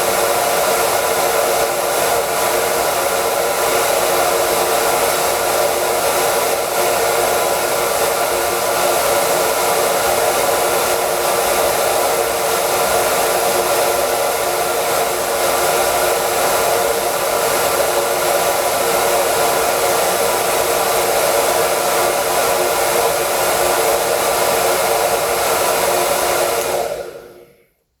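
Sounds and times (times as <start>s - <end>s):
hair dryer running: 0.0s - 27.8s.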